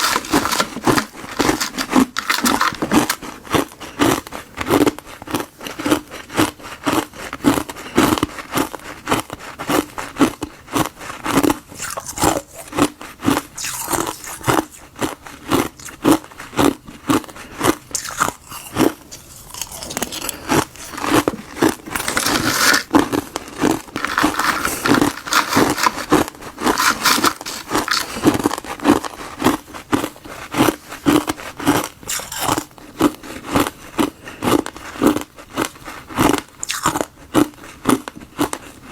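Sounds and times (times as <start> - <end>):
crunchy ice being chewed: 0.0 - 38.9.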